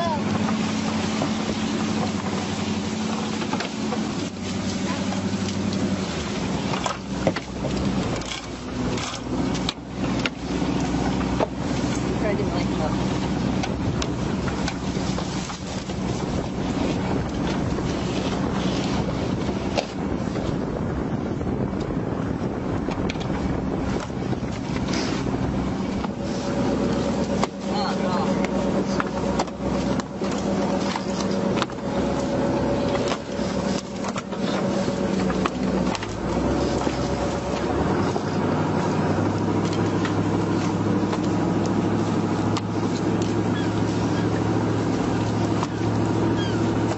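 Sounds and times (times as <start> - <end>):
boat engine running: 0.0 - 46.9
sea noise: 0.0 - 46.9
wind: 0.0 - 46.9.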